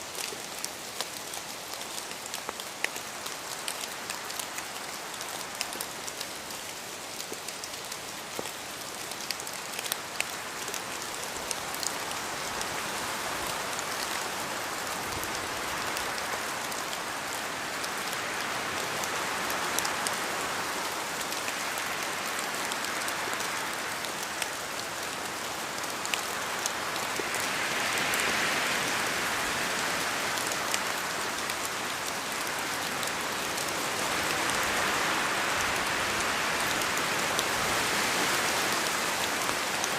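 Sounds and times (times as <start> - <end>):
rain falling in forest: 0.0 - 39.9
wind gusting through trees: 0.0 - 39.9.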